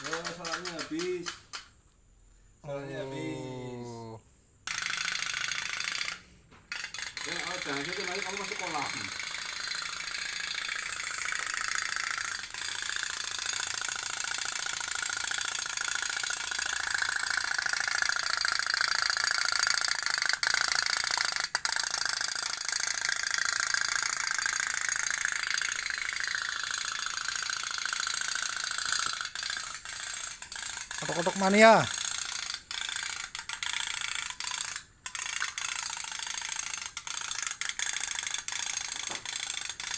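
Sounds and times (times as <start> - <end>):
toy steam boat putt-putt: 0.0 - 1.7, 4.7 - 39.9.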